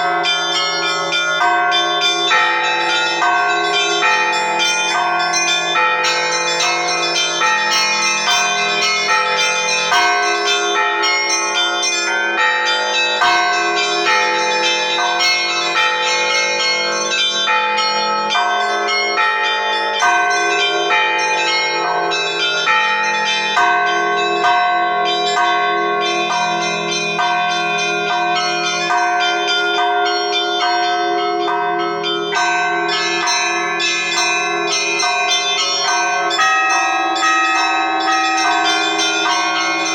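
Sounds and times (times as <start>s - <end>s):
deep hum of large bells: 0.0s - 39.9s
small church bells ringing: 0.0s - 39.9s.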